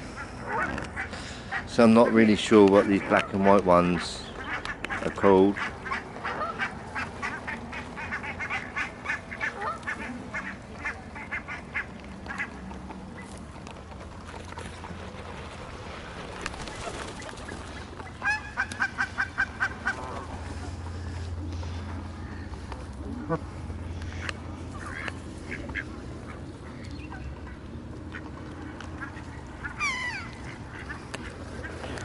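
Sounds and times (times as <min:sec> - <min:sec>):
geese honking: 0:00.0 - 0:13.3, 0:16.7 - 0:32.0.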